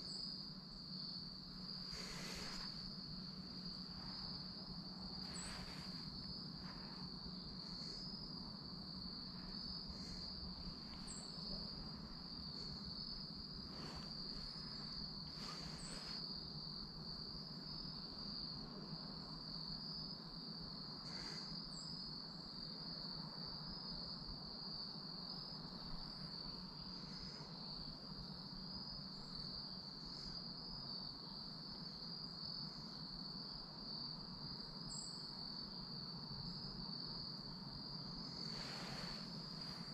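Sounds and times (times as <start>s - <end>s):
insects trilling: 0.0s - 39.9s
very high insect chirp: 0.0s - 39.9s.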